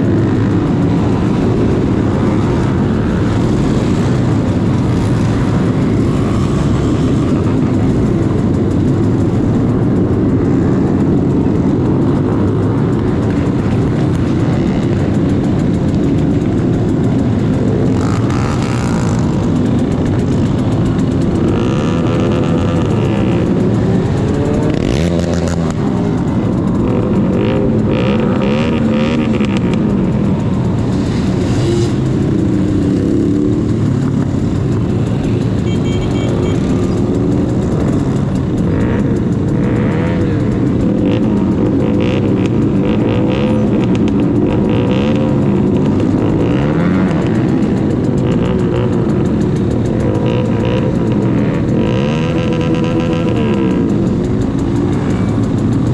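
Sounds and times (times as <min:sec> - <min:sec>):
motorcycle engines revving: 0:00.0 - 0:55.9.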